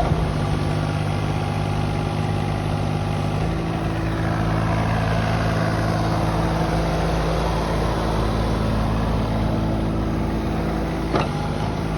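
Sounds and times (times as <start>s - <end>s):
diesel engine running steadily: 0.0s - 11.9s.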